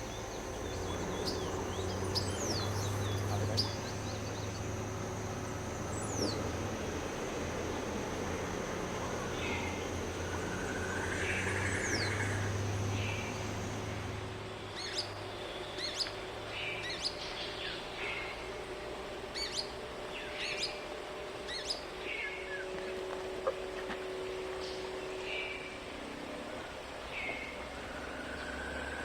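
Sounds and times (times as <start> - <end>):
low steady hum: 0.0 - 29.0
wild birds calling: 0.0 - 29.0.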